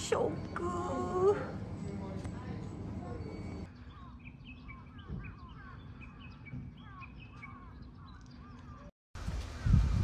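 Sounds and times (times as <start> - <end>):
small birds chirping: 0.0 - 8.9.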